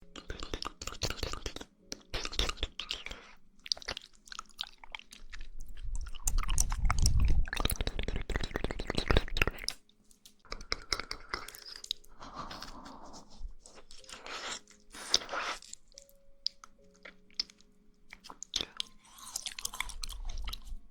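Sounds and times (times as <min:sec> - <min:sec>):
wet chewing and smacking: 0:00.0 - 0:20.9.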